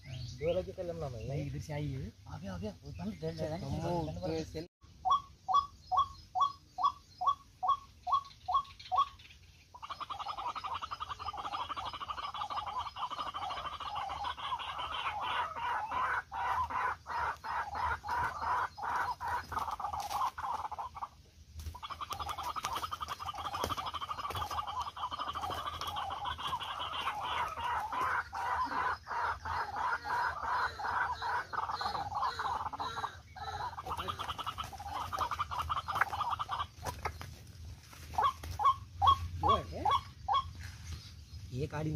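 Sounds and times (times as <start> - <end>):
bird clucking calls: 0.0 - 41.7.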